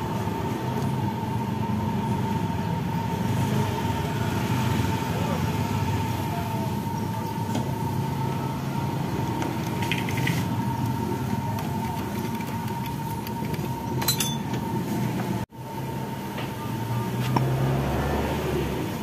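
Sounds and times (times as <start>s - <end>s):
mechanical hum: 0.0s - 19.0s
thin steady whine: 0.0s - 19.0s.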